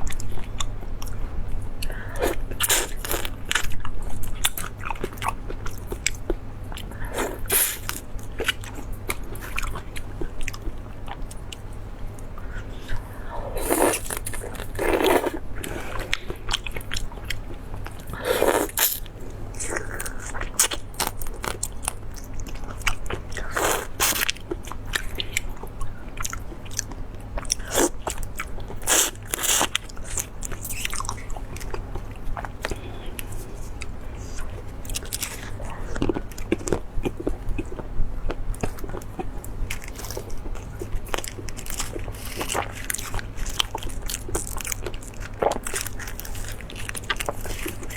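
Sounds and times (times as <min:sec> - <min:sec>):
bites and crunches while eating: 0:00.0 - 0:47.9
chewing: 0:00.0 - 0:47.9
steady low hum: 0:00.0 - 0:47.9.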